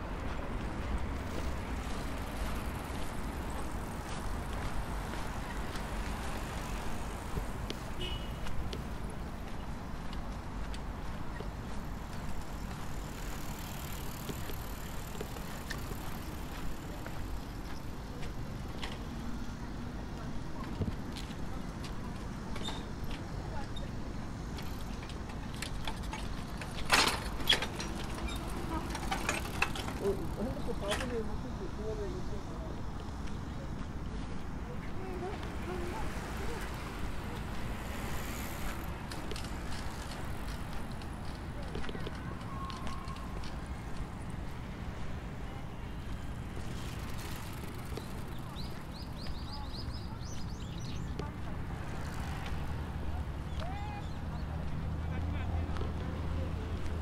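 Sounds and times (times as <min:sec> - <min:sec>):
bicycles rattling: 0:00.0 - 0:57.0
traffic rumble: 0:00.0 - 0:57.0
wind: 0:00.0 - 0:57.0.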